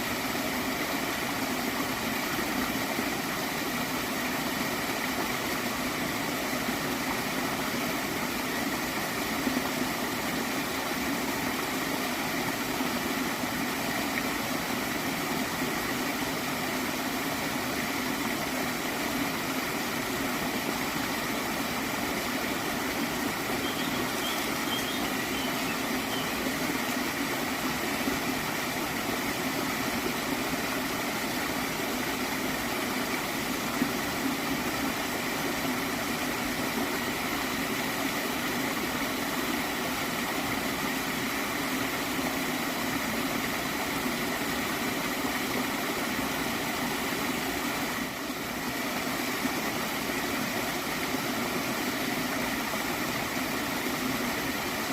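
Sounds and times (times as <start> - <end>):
stream gurgling: 0.0 - 54.9.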